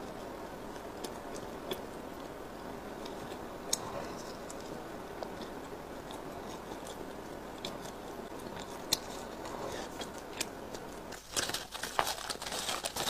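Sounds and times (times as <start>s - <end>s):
chewing food close up: 0.0s - 13.0s.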